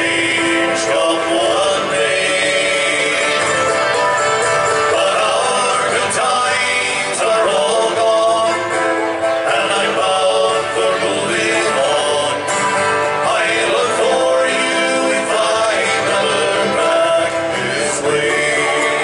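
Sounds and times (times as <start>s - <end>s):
acoustic guitar strumming: 0.0s - 19.0s
man singing folk song: 0.0s - 19.0s.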